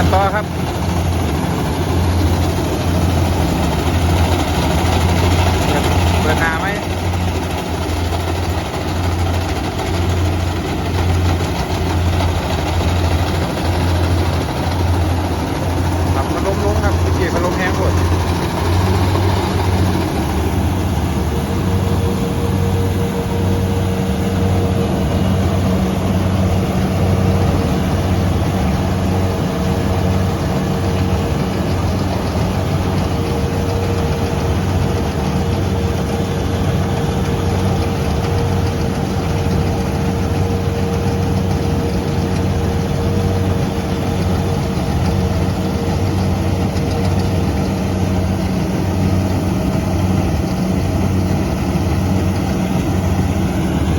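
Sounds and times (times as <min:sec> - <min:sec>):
combine harvester engine drone: 0:00.0 - 0:53.9
machinery hum: 0:00.0 - 0:53.9.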